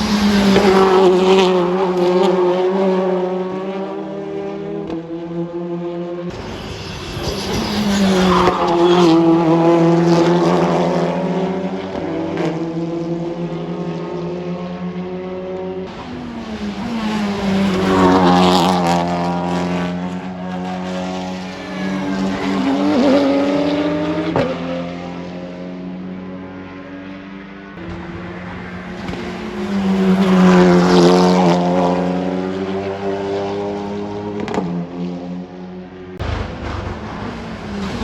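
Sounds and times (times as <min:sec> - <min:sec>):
racing cars passing at speed: 0:00.0 - 0:38.0.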